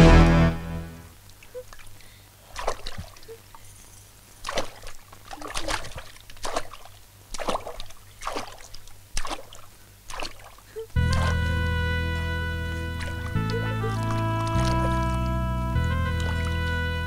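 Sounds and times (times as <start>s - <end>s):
footsteps splashing through water: 1.7s - 3.3s, 4.4s - 17.0s.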